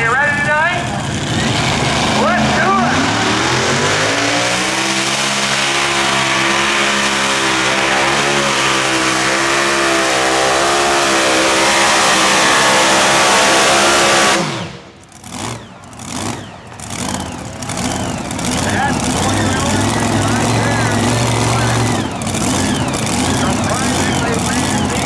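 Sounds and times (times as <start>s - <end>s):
tractor engine at full throttle: 0.0s - 25.0s.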